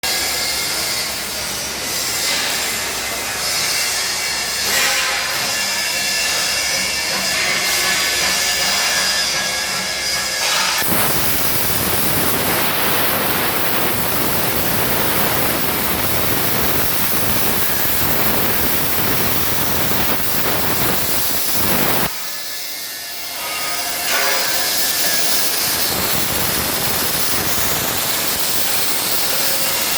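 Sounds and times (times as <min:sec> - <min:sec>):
plasma cutter hissing: 0:00.1 - 0:09.5, 0:10.1 - 0:29.9.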